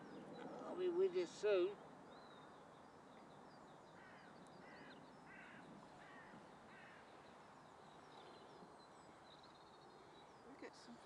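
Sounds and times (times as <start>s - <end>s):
distant bird calls: 0.0s - 11.0s.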